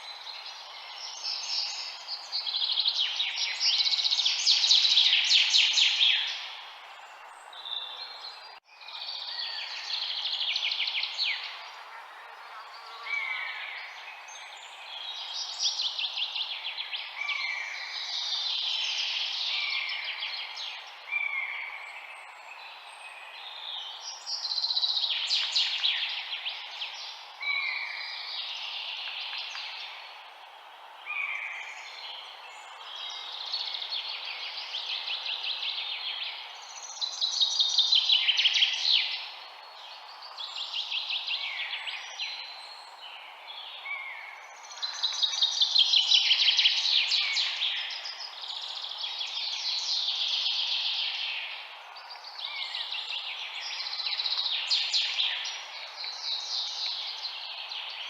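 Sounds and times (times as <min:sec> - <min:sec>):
background hiss: 0:00.0 - 0:58.0
songbirds chirping and singing: 0:00.0 - 0:58.0.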